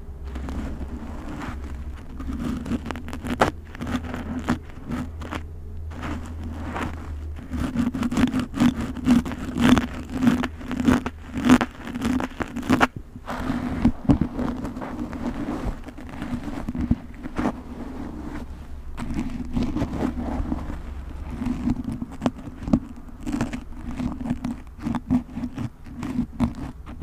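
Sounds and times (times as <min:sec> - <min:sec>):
steady low hum: 0:00.0 - 0:27.0
tool scratching through hair: 0:00.0 - 0:27.0.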